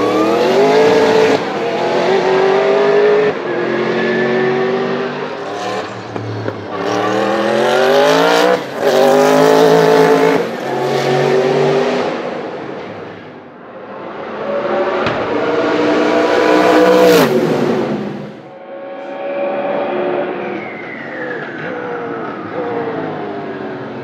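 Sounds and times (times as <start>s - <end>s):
racing car engine at full throttle: 0.0s - 24.0s.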